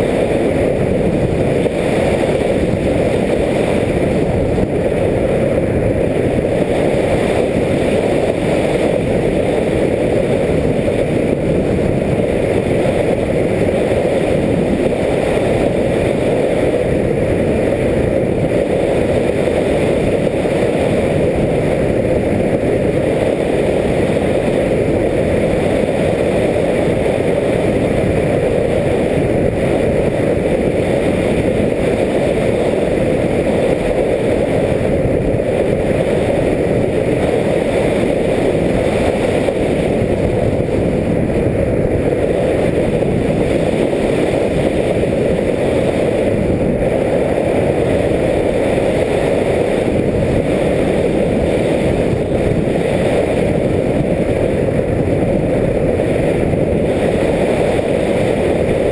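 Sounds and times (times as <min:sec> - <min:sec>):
airflow rush: 0:00.0 - 0:58.9
propeller noise: 0:00.0 - 0:58.9.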